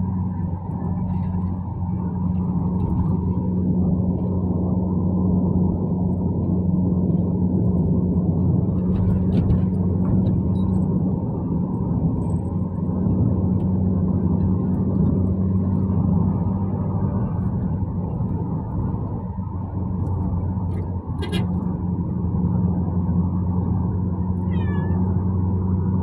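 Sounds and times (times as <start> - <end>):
car engine and road noise inside: 0.0 - 26.0.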